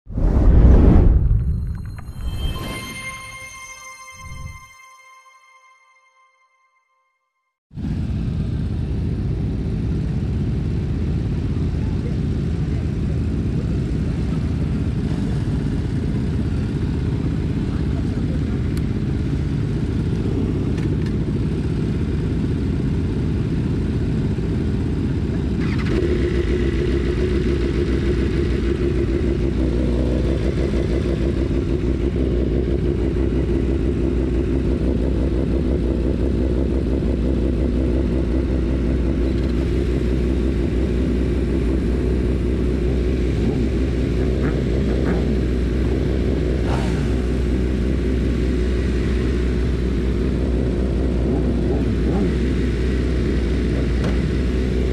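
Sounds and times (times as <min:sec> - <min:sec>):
motorcycle engine idling: 0:08.4 - 0:54.9
other motorcycles idling: 0:08.4 - 0:54.9.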